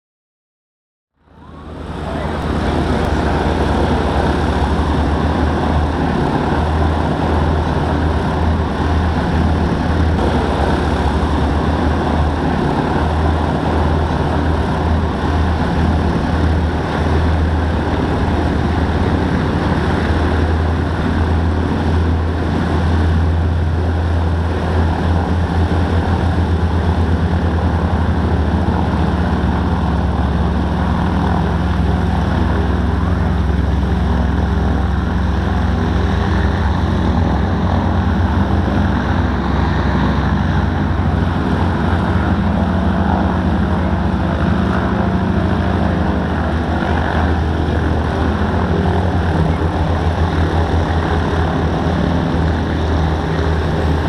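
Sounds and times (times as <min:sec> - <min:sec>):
propeller plane engines droning: 0:01.2 - 0:54.0.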